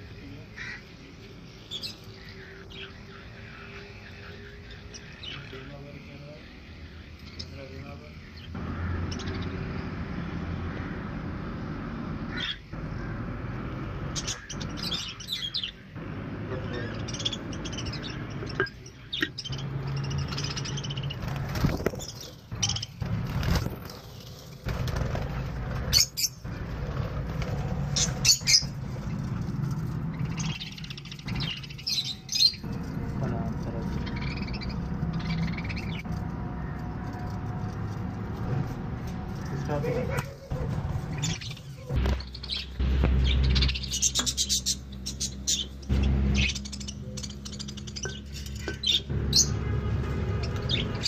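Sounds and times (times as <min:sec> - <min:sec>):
budgerigars chirping: 0:00.0 - 0:23.1, 0:27.9 - 0:36.8, 0:39.6 - 0:49.6.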